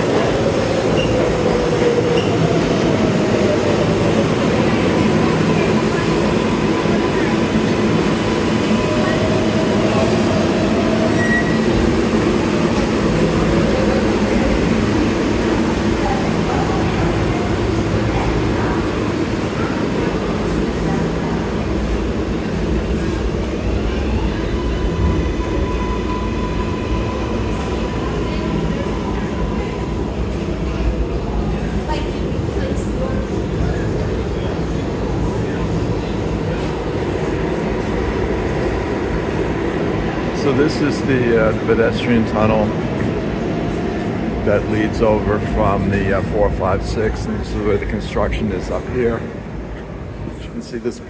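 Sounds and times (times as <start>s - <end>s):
subway train rumble: 0.0s - 51.0s.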